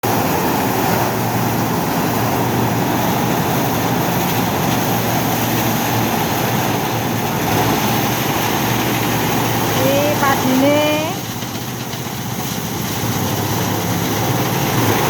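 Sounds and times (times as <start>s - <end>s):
threshing machine running: 0.0s - 15.0s.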